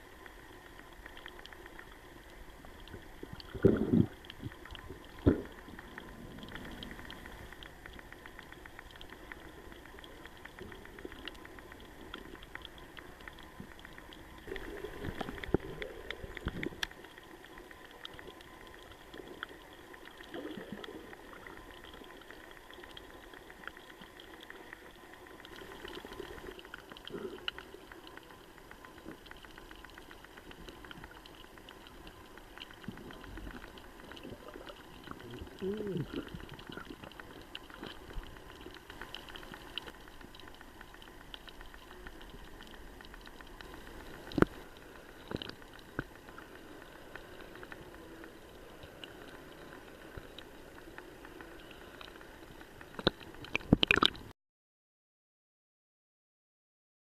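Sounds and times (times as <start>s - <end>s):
fine crackle: 0.0s - 54.3s
water bubbling and sloshing: 0.0s - 54.3s.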